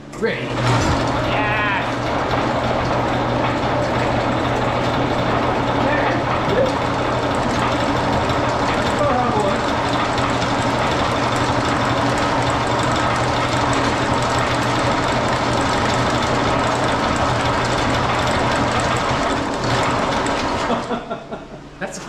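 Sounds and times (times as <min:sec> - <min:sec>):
power hammer clattering: 0:00.0 - 0:21.2.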